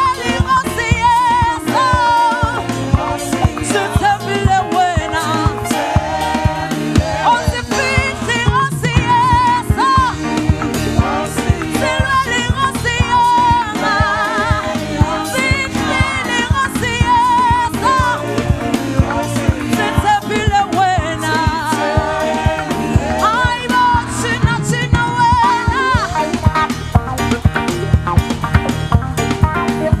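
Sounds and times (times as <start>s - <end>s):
group of singers: 0.0s - 26.8s
band playing a steady beat: 0.0s - 30.0s.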